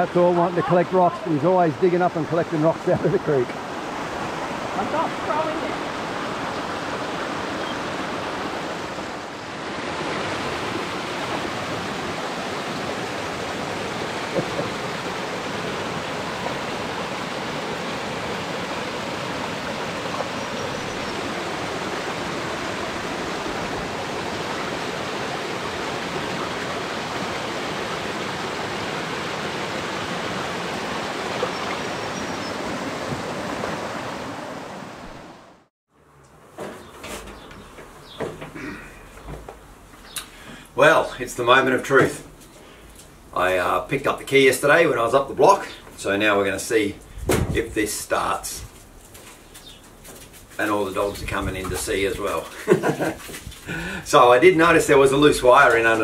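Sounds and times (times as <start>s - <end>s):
creek water running: 0.0s - 35.7s, 37.4s - 56.0s.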